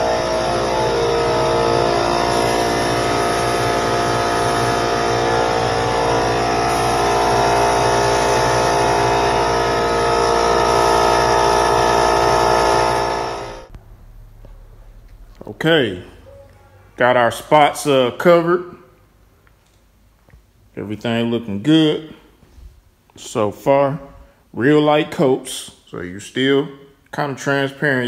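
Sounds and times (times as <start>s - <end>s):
air compressor droning hum: 0.0s - 27.0s.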